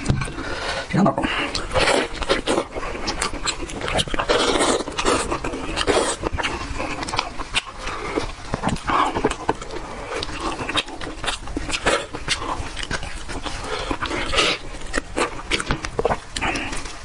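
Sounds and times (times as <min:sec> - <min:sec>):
wet slurping and chewing: 0:00.0 - 0:17.0.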